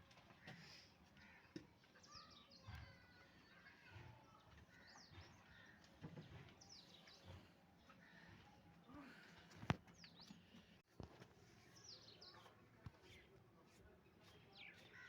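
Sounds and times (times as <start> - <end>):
faint birds chirping: 0.1 - 15.0.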